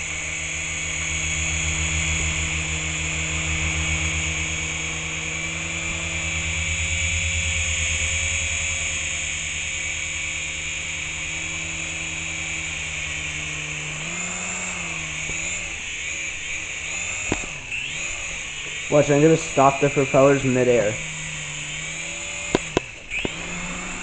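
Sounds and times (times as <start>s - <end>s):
helicopter rotors beating: 0.0s - 24.0s
rc helicopter motor whine: 0.0s - 24.0s.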